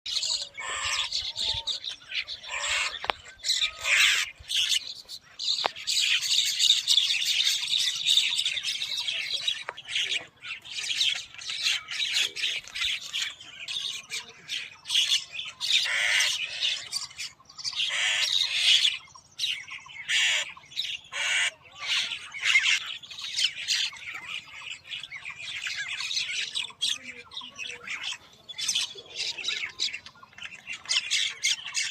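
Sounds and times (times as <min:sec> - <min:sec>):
birds squawking: 0:00.1 - 0:31.9.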